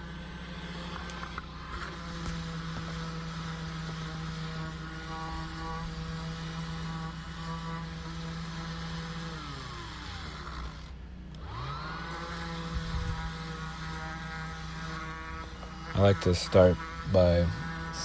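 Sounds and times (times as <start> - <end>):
power tool motor humming: 0.0 - 18.0.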